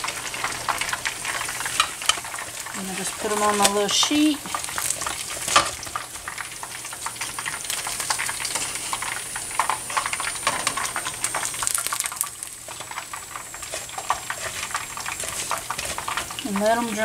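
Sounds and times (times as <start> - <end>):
wings deep-frying in oil: 0.0 - 17.0.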